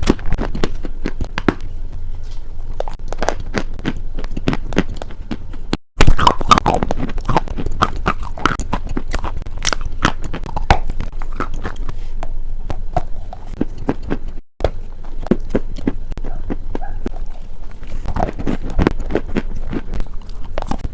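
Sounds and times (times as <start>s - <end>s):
crunchy chewing: 0.0s - 20.9s.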